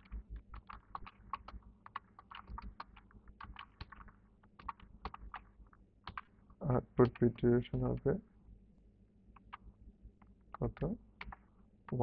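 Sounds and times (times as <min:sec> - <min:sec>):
keyboard typing: 0:00.0 - 0:08.1, 0:09.3 - 0:09.7, 0:10.3 - 0:12.0
faint low hum: 0:00.0 - 0:12.0.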